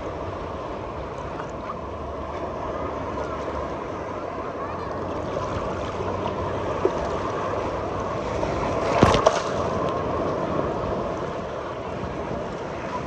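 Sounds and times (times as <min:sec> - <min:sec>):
sea water washing: 0:00.0 - 0:13.0.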